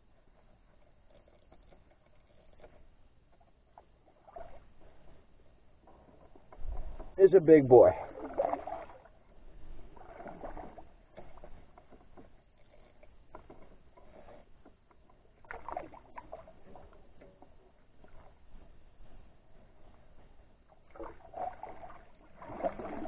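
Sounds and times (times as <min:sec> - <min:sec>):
water swishing: 0:03.8 - 0:23.0.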